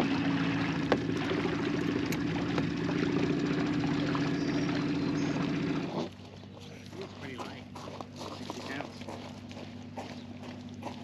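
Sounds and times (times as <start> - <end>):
small outboard motor running: 0.0 - 11.0
water swishing along hull: 0.0 - 11.0.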